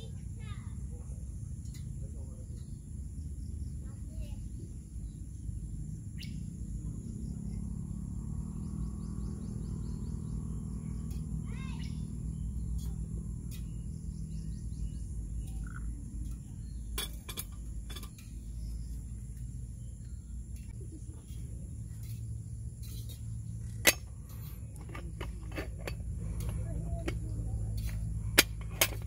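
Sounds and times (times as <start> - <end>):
bird chirping: 0.0 - 28.3.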